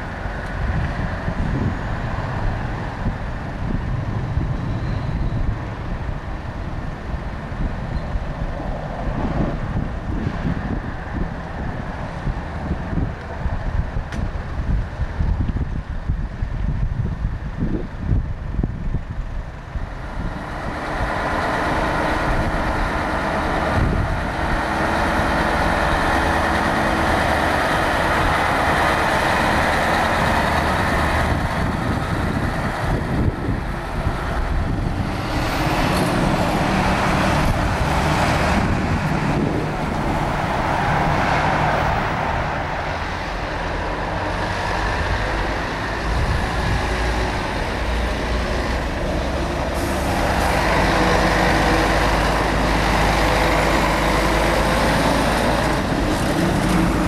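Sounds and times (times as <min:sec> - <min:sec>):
diesel trucks driving slowly: 0:00.0 - 0:57.0.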